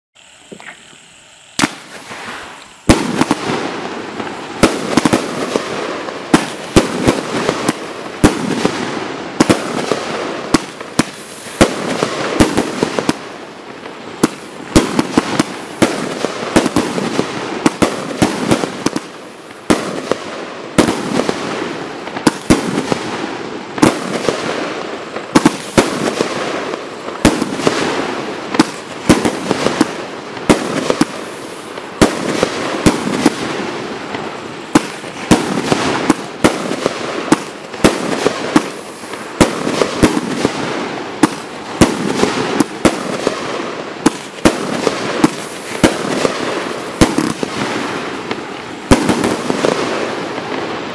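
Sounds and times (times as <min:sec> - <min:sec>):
firework launches and bursts: 0:00.2 - 0:50.9
firework bangs: 0:00.4 - 0:50.9.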